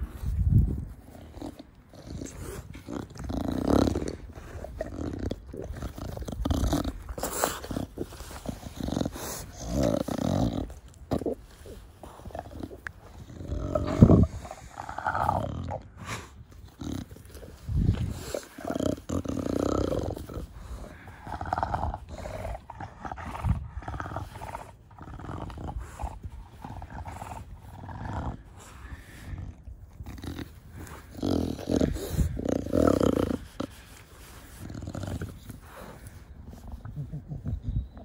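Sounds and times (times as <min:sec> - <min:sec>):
dog snorting breaths: 0:00.0 - 0:38.0.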